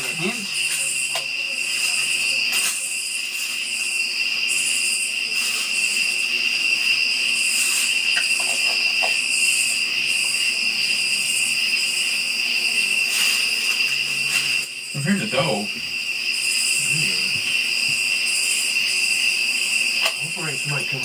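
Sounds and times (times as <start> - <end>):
insects chirping: 0.0 - 21.0
insects trilling: 0.0 - 21.0.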